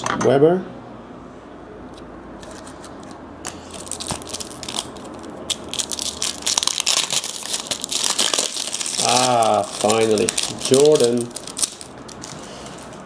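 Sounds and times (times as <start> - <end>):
wrapper crinkling: 2.4 - 13.0.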